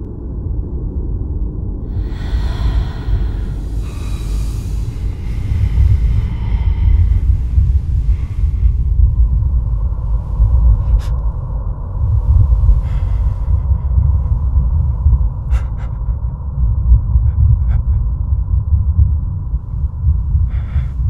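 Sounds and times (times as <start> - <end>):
person breathing: 1.8 - 21.0.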